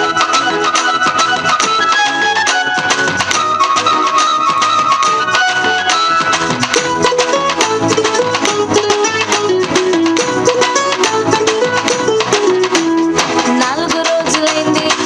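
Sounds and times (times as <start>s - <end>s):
instrumental melody line: 0.0s - 15.0s
steady percussion beat: 0.0s - 15.0s.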